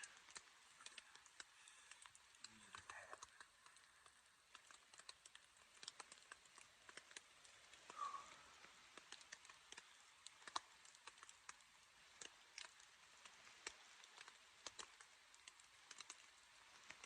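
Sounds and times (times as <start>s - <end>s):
raindrops tapping on fabric: 0.0s - 17.0s.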